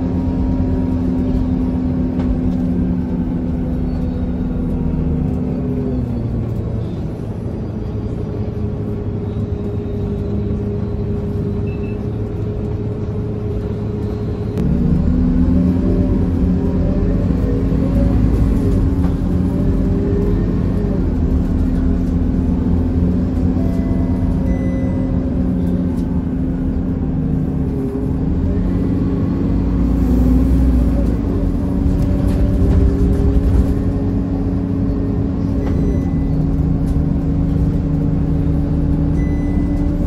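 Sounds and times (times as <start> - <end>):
bus engine rumble from inside: 0.0 - 40.0.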